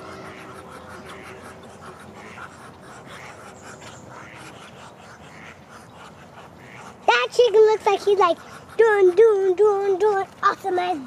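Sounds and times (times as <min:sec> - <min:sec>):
ducks hissing: 0:00.0 - 0:11.0.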